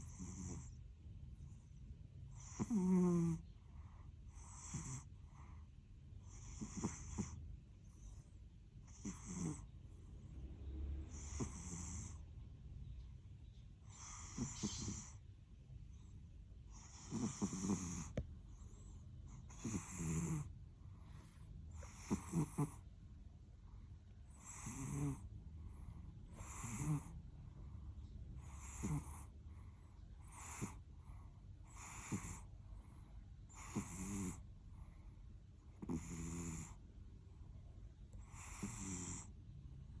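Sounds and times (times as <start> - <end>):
cat snoring: 0.0 - 0.8, 1.5 - 12.3, 13.8 - 15.2, 16.7 - 22.9, 24.3 - 27.8, 28.4 - 36.8, 38.1 - 39.4.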